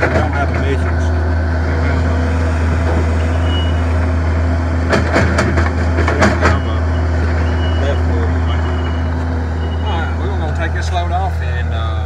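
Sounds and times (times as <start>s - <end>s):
diesel machinery drone: 0.0s - 12.0s.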